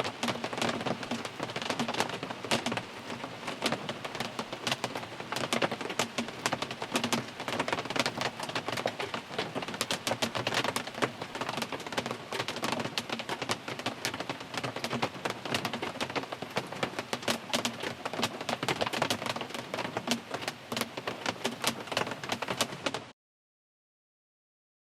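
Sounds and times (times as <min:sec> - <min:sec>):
heavy rain on a car roof: 0:00.0 - 0:23.1.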